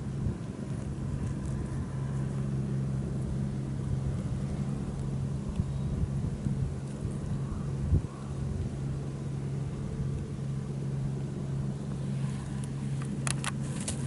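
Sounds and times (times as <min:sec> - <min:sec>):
low rumble: 0:00.0 - 0:13.7
steady low hum: 0:00.0 - 0:14.0.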